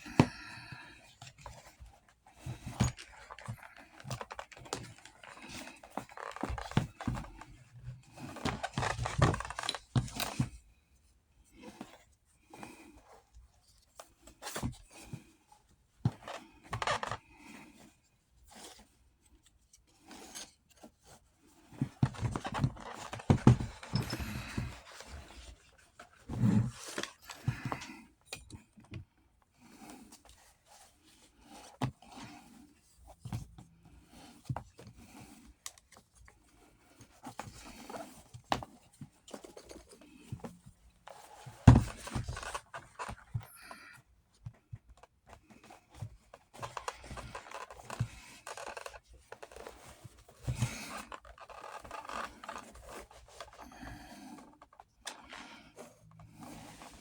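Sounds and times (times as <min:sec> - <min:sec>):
hands handling leather and buckles: 0:00.0 - 0:10.7, 0:16.0 - 0:57.0.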